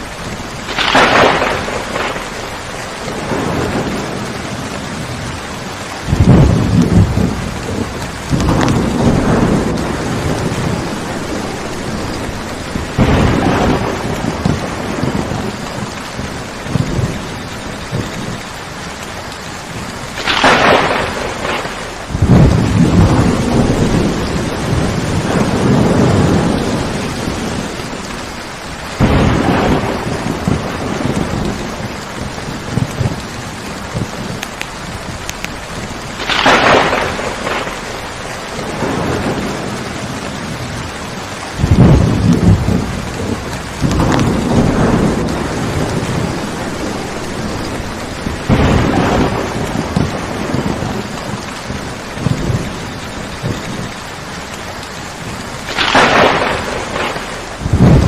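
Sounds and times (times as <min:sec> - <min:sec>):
steady rain: 0:00.0 - 0:58.0
thunder rumbling: 0:00.0 - 0:58.0.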